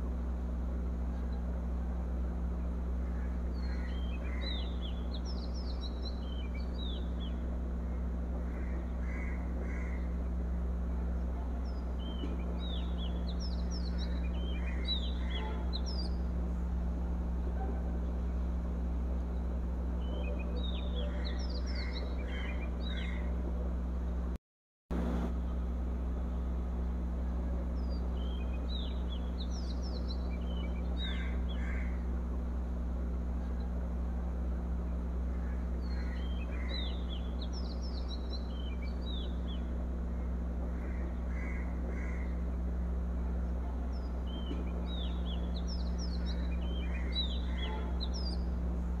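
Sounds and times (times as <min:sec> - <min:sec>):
birds chirping: 0:00.0 - 0:24.3, 0:25.5 - 0:49.0
steady low hum: 0:00.0 - 0:49.0.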